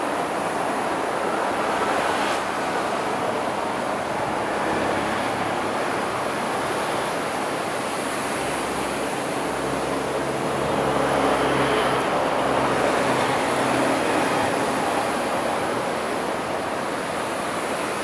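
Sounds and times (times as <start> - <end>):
train engine hum: 0.0 - 18.0.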